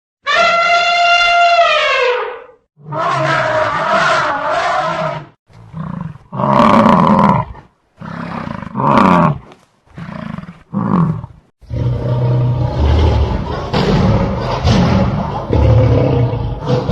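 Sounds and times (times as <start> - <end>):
large animal roaring: 2.8 - 16.9.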